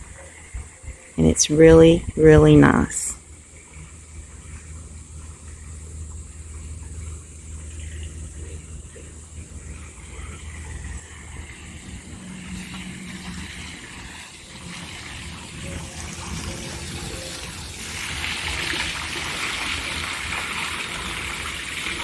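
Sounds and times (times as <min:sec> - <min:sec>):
water trickling and splashing: 0:03.2 - 0:22.0.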